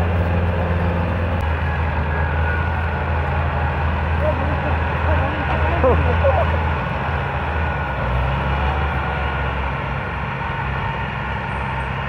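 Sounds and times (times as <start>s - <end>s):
tractor diesel engine labouring: 0.0s - 12.0s.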